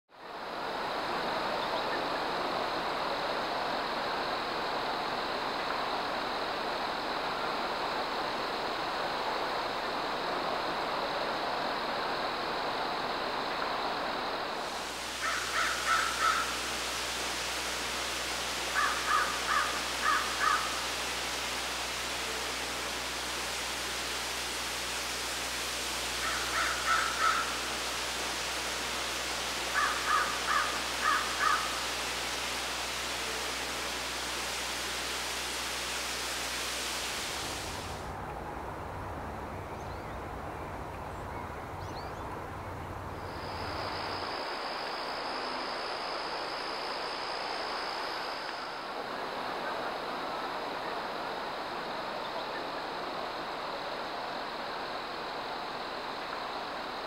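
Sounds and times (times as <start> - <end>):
outdoor hiss: 0.1 - 57.0.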